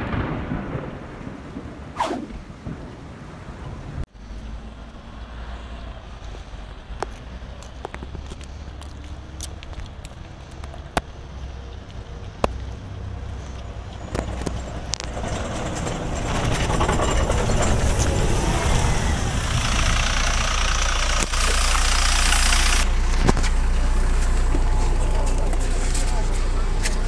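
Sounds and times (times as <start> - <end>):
bus engine idling: 4.1 - 27.0.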